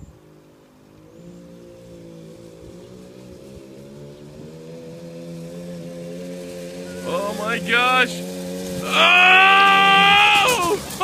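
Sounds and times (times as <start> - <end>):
small atv engine running: 0.0 - 11.0.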